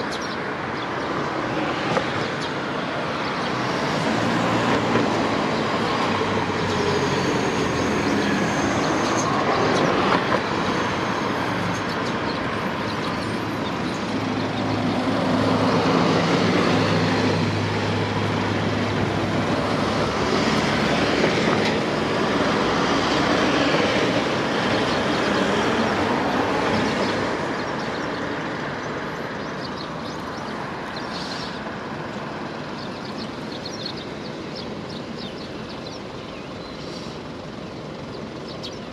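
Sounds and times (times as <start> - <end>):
passing road traffic: 0.0 - 38.9.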